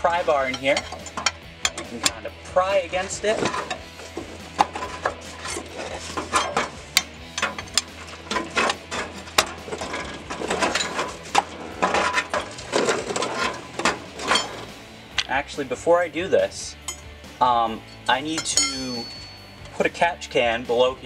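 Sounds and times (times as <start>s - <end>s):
pry bar scraping and clinking metal: 0.0s - 15.4s, 16.7s - 20.0s.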